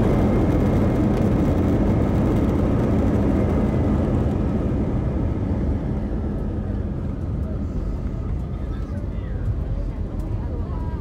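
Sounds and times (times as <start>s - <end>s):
plane engines and wheels rumbling: 0.0s - 11.0s.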